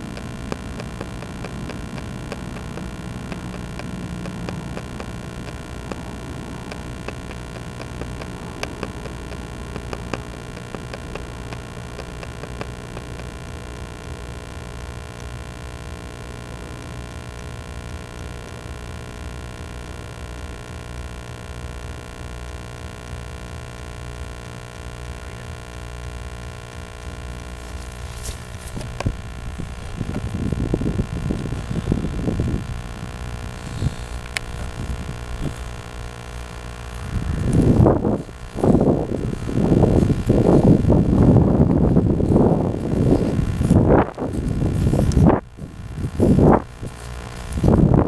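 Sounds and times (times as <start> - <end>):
faint ticks: 0.0 - 48.0
steady multi-tone hum: 0.0 - 48.0.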